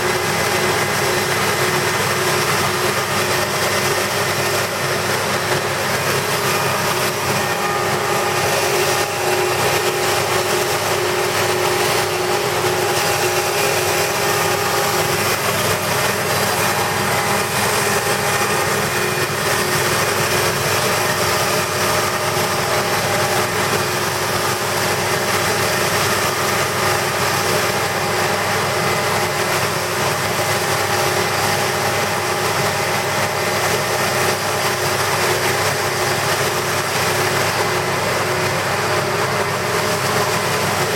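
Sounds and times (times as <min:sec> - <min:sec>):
grinding machine running: 0:00.0 - 0:40.9.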